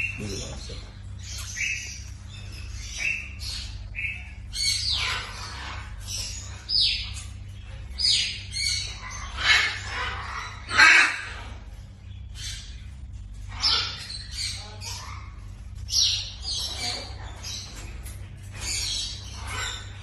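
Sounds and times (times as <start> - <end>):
parrots squawking: 0.0 - 20.0.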